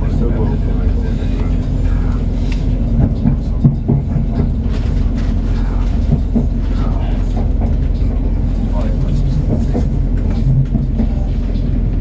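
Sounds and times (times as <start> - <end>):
train engine and wheels rumbling: 0.0 - 12.0.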